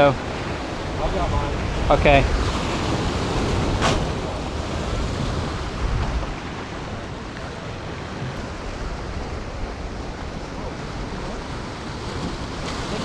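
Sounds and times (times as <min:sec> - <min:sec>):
surf washing in: 0:00.0 - 0:13.0
wind: 0:00.0 - 0:13.0.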